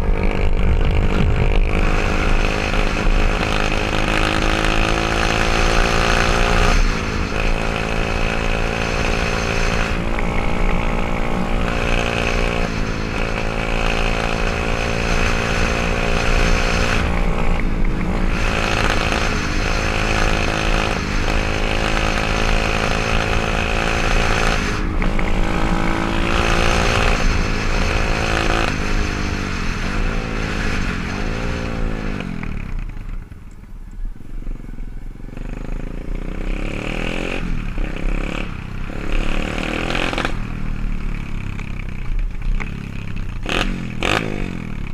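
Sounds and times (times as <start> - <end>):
pit bike engine revving: 0.0 - 33.1, 35.3 - 44.9.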